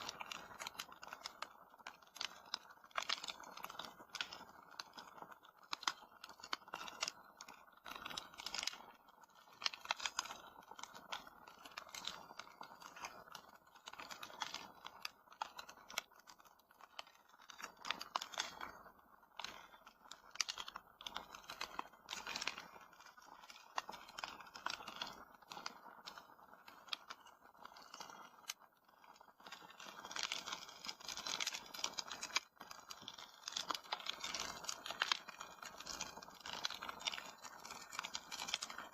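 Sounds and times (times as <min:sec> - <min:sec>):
fire crackling in a fireplace: 0:00.0 - 0:38.9.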